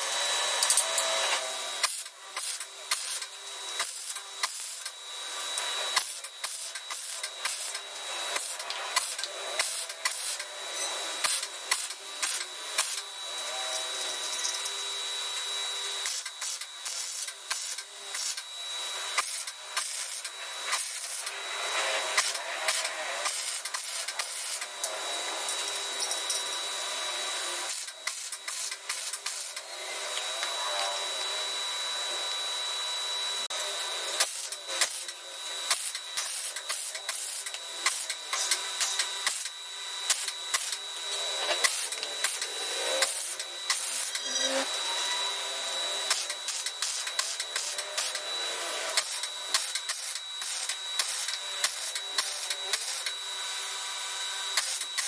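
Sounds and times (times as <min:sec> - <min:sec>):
power tool whining on metal: 0:00.0 - 0:55.0.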